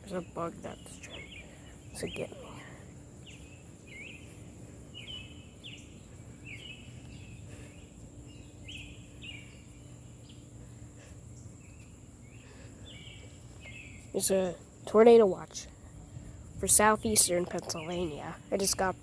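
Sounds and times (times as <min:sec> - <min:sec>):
high insect drone: 0:00.1 - 0:19.0.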